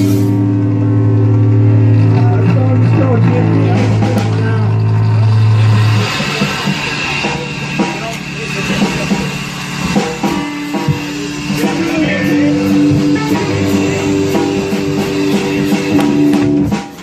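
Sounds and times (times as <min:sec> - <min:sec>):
electric guitar: 0:00.0 - 0:17.0
rock band playing live: 0:00.0 - 0:17.0.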